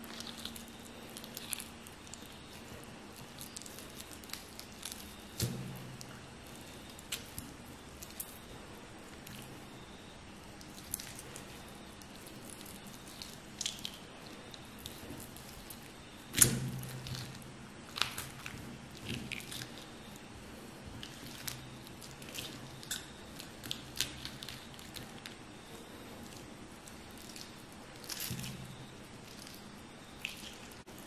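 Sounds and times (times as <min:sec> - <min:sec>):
wet squishes of skin peeling: 0:00.0 - 0:09.8, 0:10.4 - 0:31.0.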